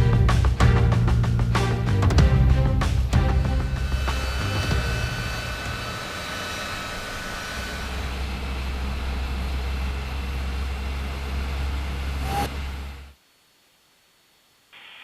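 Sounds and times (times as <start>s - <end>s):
jet engines running: 0.0s - 13.1s.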